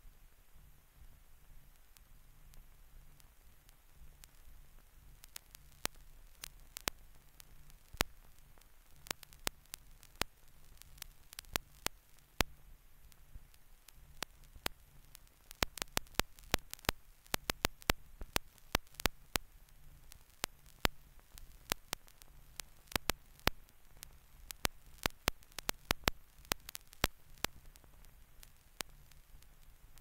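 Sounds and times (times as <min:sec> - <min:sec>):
faint hiss: 0:00.0 - 0:30.0
film surface clicks and pops: 0:01.8 - 0:30.0.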